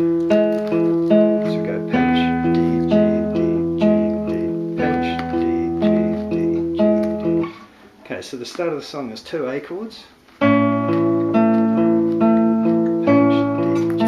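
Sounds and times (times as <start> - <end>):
fingerpicked acoustic guitar: 0.0 - 7.8, 10.4 - 14.0.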